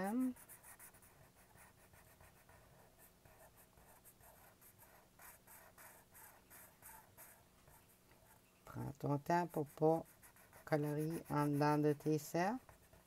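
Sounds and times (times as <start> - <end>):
marker scribbling on paper: 0.0 - 13.0.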